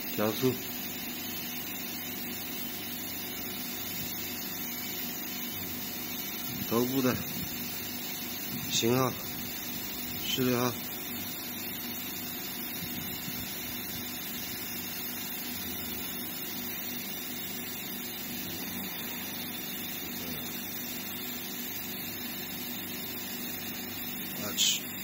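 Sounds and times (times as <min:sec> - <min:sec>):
electric motor spindle humming: 0:00.0 - 0:25.0.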